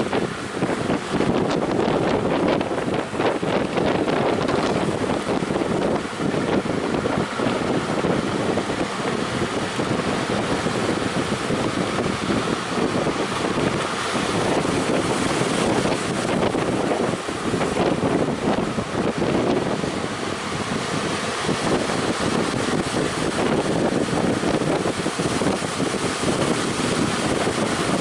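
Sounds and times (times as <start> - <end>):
breaking surf: 0.0 - 28.0
wind buffeting microphone: 0.0 - 28.0.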